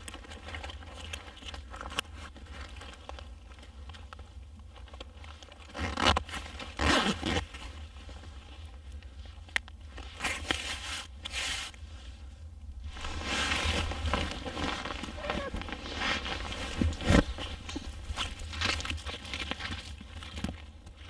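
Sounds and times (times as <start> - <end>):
rustling and crinkling: 0.0 - 21.0.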